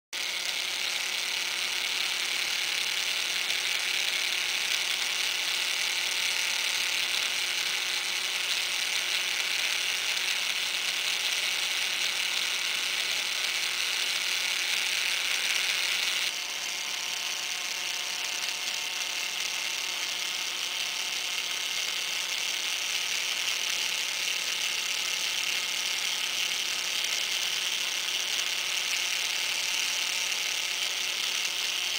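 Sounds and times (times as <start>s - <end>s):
gearmotor whirring: 0.2s - 31.9s.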